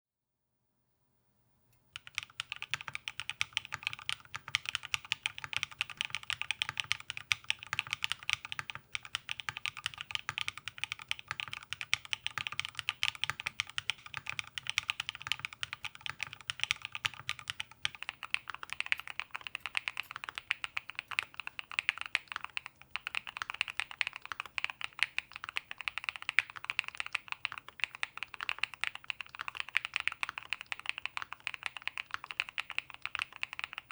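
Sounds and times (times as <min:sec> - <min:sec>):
mechanical keyboard typing: 0:02.0 - 0:33.9.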